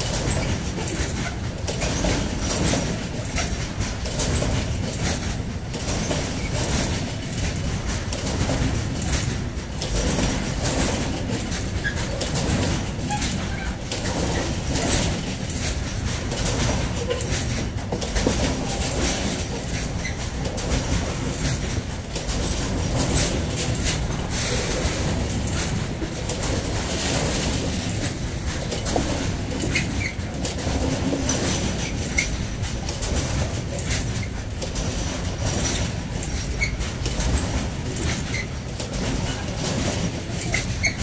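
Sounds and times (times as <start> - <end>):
train wheels rumbling on rail: 0.0 - 41.0
wheels clacking over rail joints: 0.0 - 41.0.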